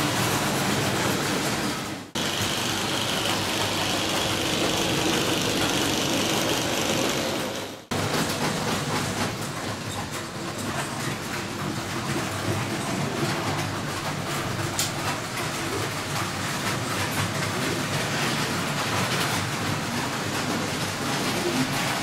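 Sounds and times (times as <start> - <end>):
model trains running: 0.0 - 22.0.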